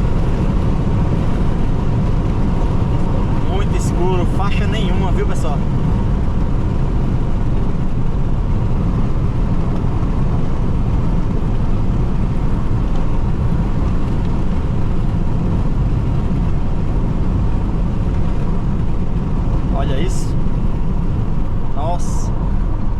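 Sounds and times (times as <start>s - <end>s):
car cabin road rumble: 0.0s - 22.9s.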